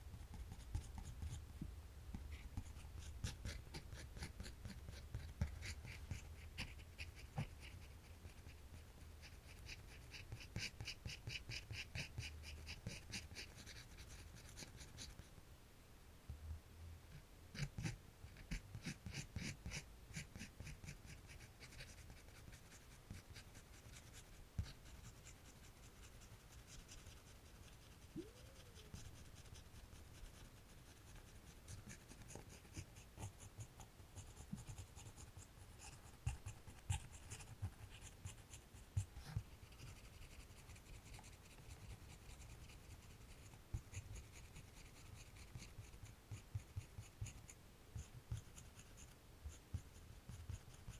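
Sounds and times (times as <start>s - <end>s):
drawing tool scratching on paper: 2.4s - 8.6s, 9.2s - 15.2s, 17.6s - 28.1s, 28.9s - 50.9s.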